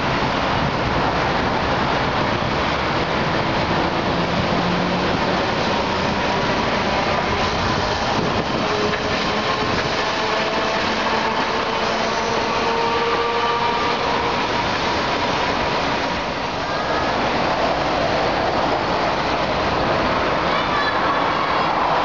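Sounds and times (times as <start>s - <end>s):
city traffic: 0.0s - 22.0s
streetcar rolling on tracks: 0.0s - 22.0s.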